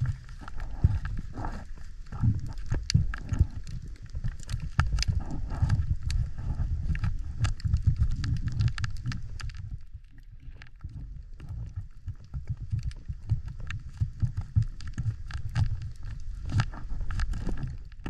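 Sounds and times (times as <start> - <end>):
muffled underwater rumble: 0.0 - 18.0
sharp underwater clicks and crackles: 0.0 - 18.0.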